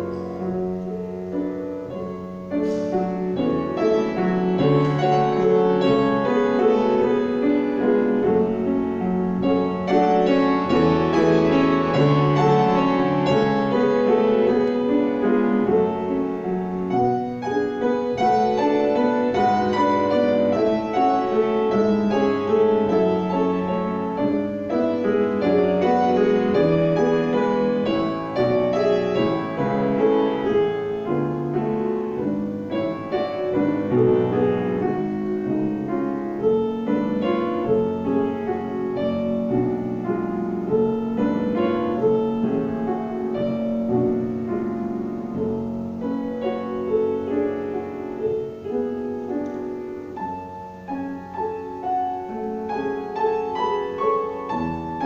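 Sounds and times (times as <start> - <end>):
grand piano playing: 0.0 - 55.0.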